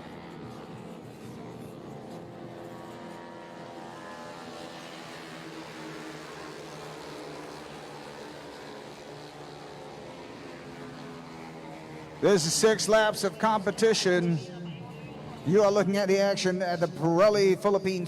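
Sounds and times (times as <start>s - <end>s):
scooter engines droning: 0.0s - 16.2s.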